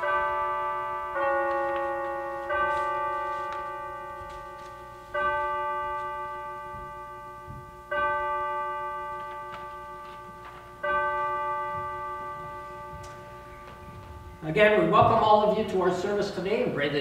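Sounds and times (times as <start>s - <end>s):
bell tolling: 0.0s - 16.8s.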